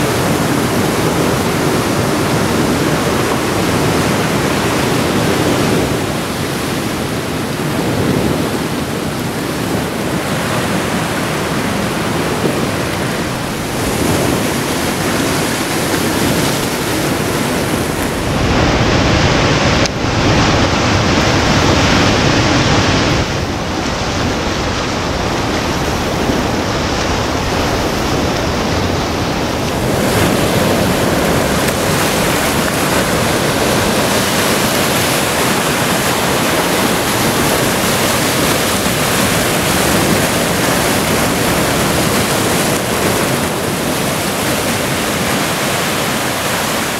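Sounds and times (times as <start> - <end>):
ocean surf breaking: 0.0 - 46.9.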